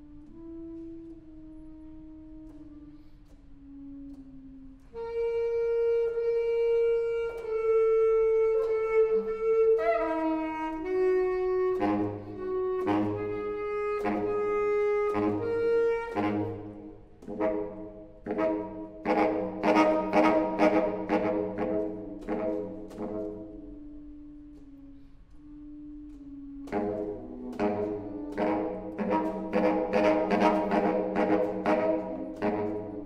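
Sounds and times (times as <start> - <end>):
baritone saxophone playing: 0.0 - 33.0.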